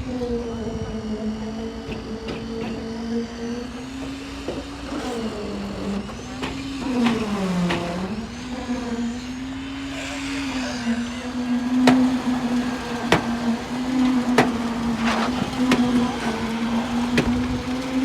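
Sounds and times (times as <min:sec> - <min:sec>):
pump engine running at high speed: 0:00.0 - 0:18.0.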